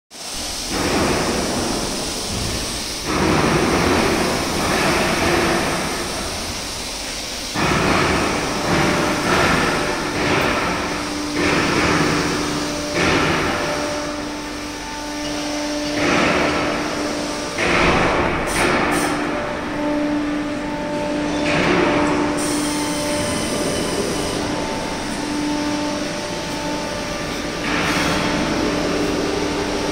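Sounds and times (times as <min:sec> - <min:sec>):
factory machinery noise: 0:00.1 - 0:29.9
steady hum: 0:00.3 - 0:29.9.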